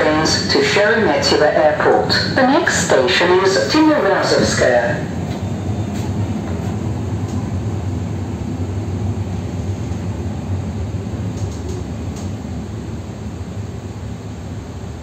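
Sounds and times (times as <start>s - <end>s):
train running noise inside car: 0.0s - 15.0s.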